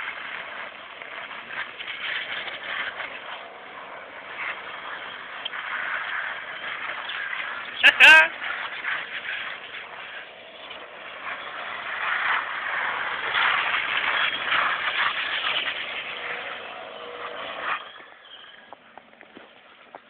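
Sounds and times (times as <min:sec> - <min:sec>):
car engine running hard: 0:00.0 - 0:20.0
tires sliding on pavement: 0:00.0 - 0:20.0.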